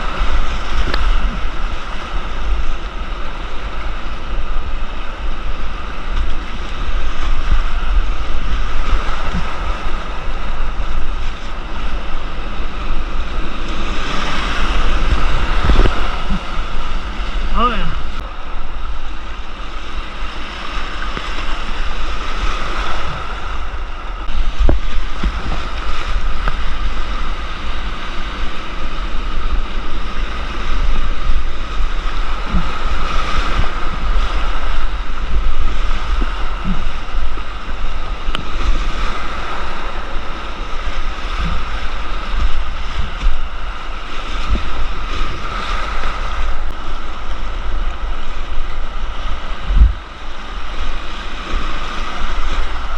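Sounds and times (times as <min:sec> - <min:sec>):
creek whitewater rushing: 0:00.0 - 0:52.9
wind buffeting microphone: 0:00.0 - 0:52.9.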